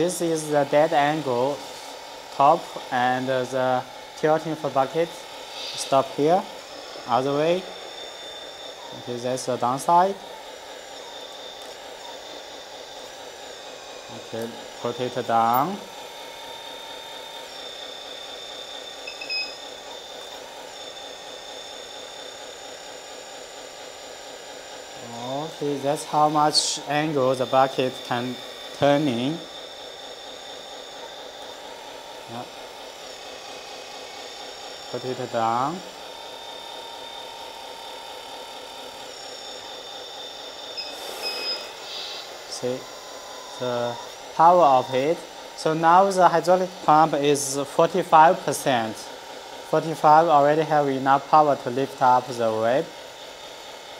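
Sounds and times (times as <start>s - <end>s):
hydraulic pump whining: 0.0s - 53.9s.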